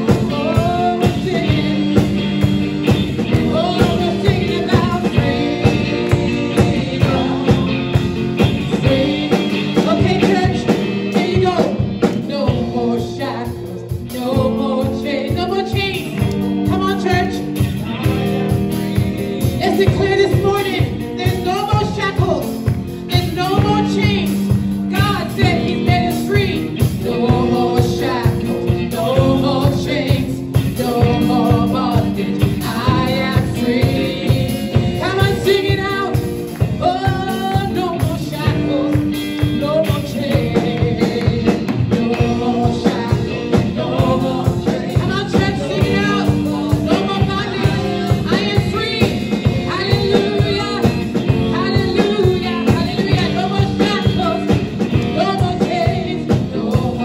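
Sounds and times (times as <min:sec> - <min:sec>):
drums steady beat: 0:00.0 - 0:57.0
electric guitar: 0:00.0 - 0:57.0
woman singing: 0:00.0 - 0:57.0.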